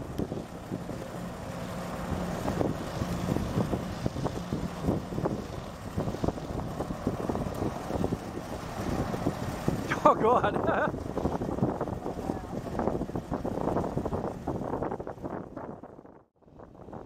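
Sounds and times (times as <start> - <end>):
hovercraft engine and fan running: 0.0 - 17.0
wind gusting on microphone: 0.0 - 17.0.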